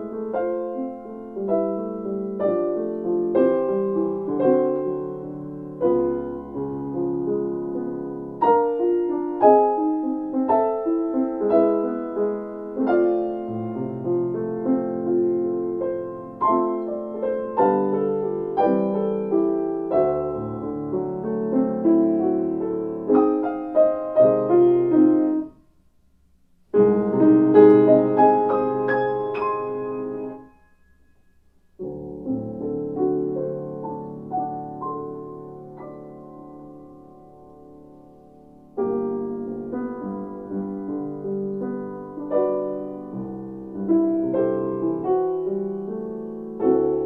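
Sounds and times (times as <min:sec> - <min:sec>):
grand piano playing: 0:00.0 - 0:25.6, 0:26.7 - 0:47.0.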